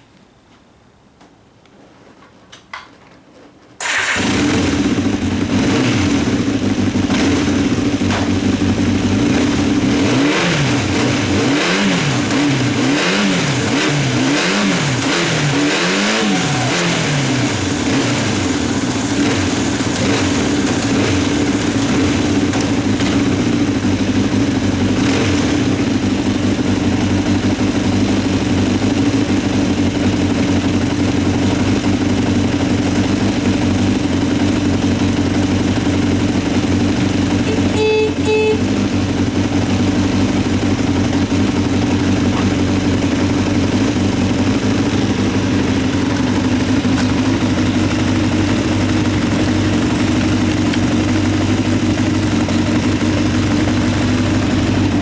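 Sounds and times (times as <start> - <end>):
motorcycle engine idling: 3.8 - 55.0.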